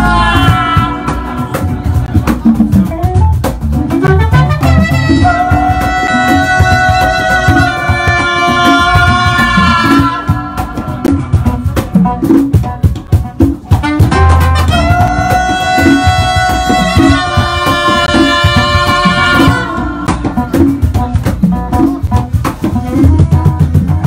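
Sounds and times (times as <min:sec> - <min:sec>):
drums: 0:00.0 - 0:24.0.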